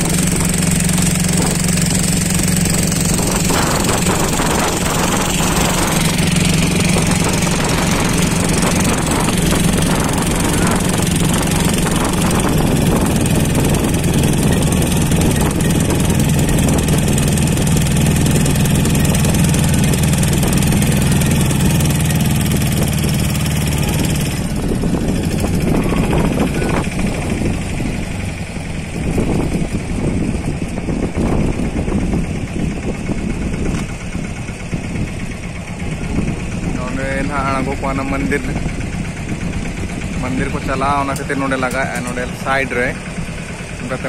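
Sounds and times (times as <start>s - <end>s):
motorboat engine running: 0.0s - 44.0s.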